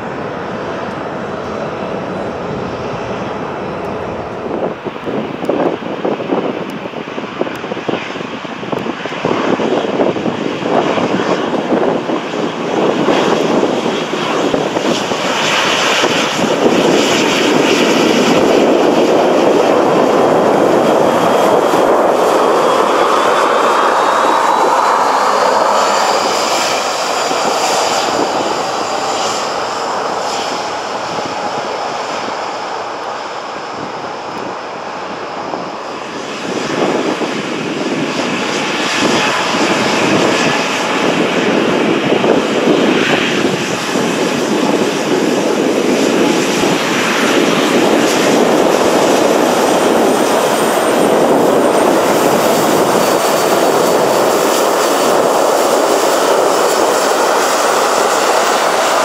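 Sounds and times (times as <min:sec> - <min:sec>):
high jet engine whine: 0:00.0 - 0:59.0
jet engine roar: 0:00.0 - 0:59.0
second jet approaching: 0:00.0 - 0:59.0.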